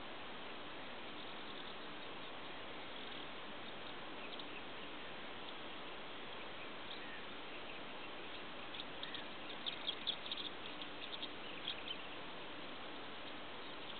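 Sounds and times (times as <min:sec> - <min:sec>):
outdoor hiss: 0:00.0 - 0:13.9
distant birds chirping: 0:00.9 - 0:13.9.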